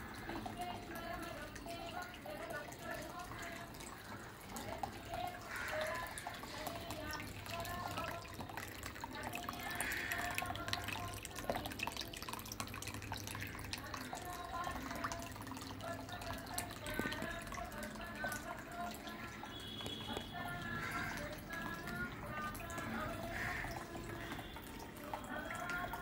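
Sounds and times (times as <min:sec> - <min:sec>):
fountain water trickling: 0:00.0 - 0:26.0.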